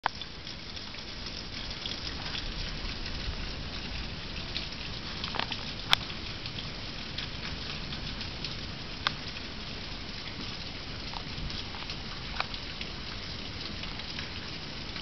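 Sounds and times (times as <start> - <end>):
rain pattering: 0.0 - 15.0
wind rumbling on microphone: 1.6 - 14.4.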